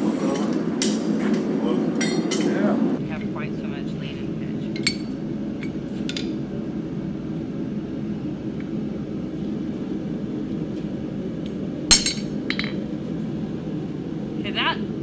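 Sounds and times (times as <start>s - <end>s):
gas forge roaring: 0.0s - 15.0s.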